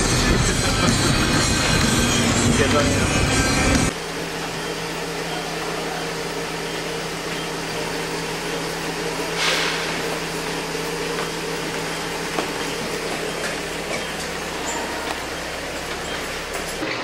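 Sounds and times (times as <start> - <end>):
steady low mechanical hum: 0.0 - 17.0.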